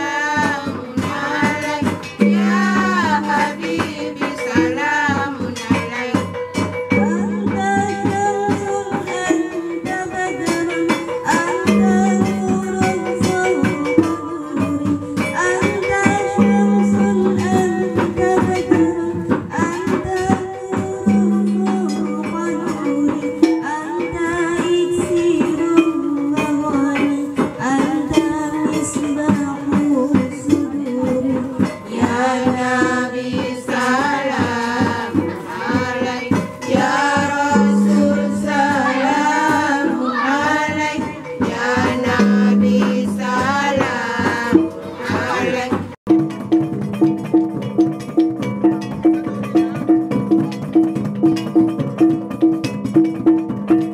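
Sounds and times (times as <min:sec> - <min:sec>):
sung melody with accompaniment: 0:00.0 - 0:53.9.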